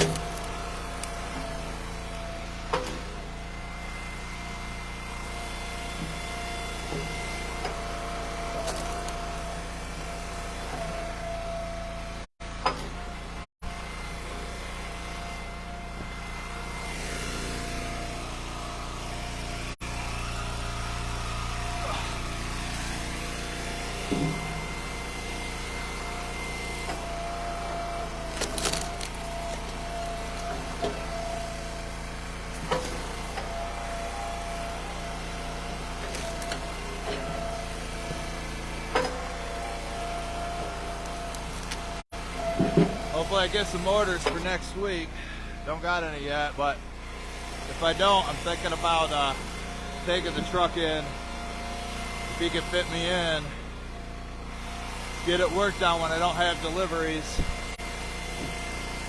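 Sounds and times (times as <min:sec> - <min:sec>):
small gas engine whining: 0:00.0 - 0:59.0.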